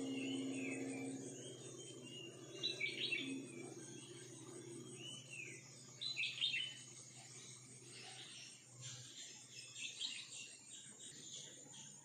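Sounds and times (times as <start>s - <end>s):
songbird whistling and chirping: 0.0s - 12.0s.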